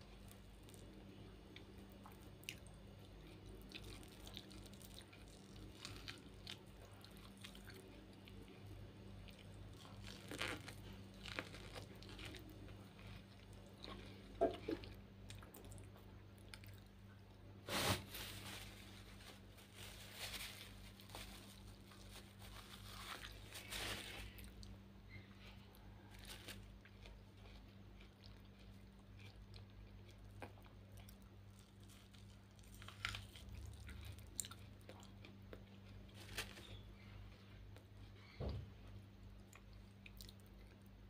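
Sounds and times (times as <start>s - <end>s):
chewing corn crunches: 1.5s - 16.9s, 19.8s - 38.4s, 39.4s - 40.9s.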